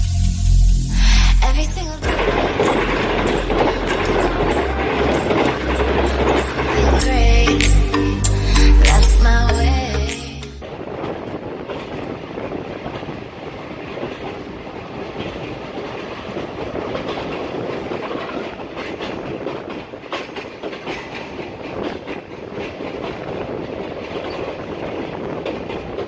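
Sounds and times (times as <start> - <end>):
rail clicks: 0.0 - 26.0
train wheels rumbling on rails: 0.0 - 26.0.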